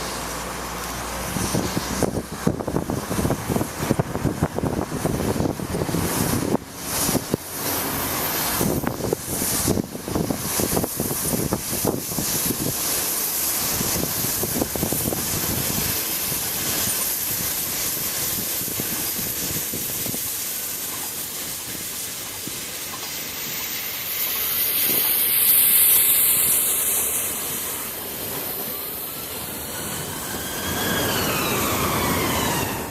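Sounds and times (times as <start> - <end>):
steam hissing: 0.0 - 32.9
steam locomotive running: 0.0 - 32.9.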